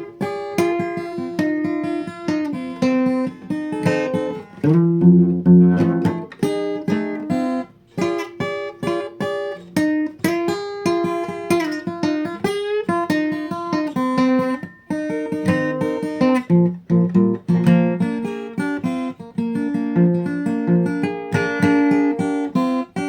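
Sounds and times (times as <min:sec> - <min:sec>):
acoustic guitar blues playing: 0:00.0 - 0:23.0.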